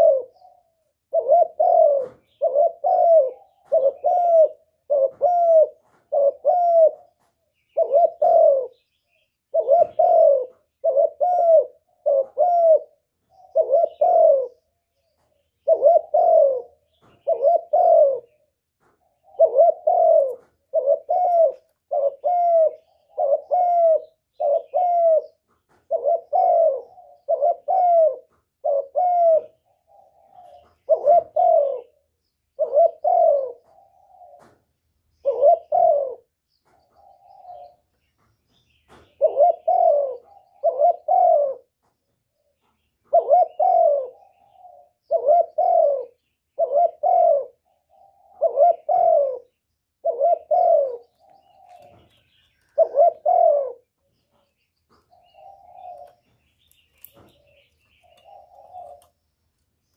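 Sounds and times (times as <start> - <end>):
dove cooing: 0.0 - 59.4.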